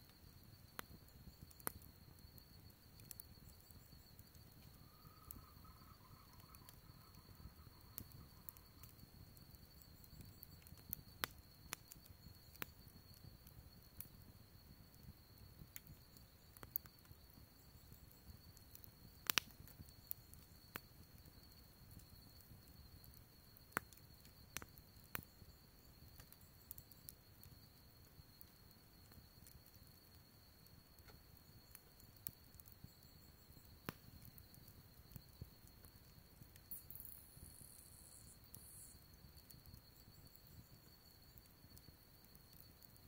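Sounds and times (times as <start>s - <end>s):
campfire crackling and popping: 0.0s - 43.0s
low rumble of burning: 0.0s - 43.0s.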